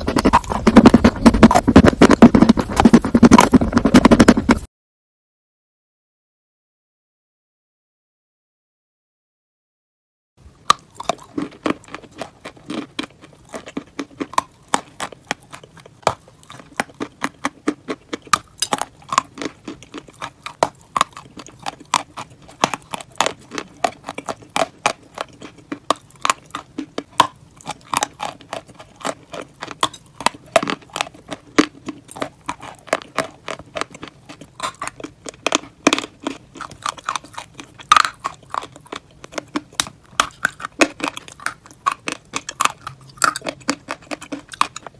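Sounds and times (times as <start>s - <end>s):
crunching and chewing toasted bread: 0.0s - 4.7s, 10.5s - 44.9s.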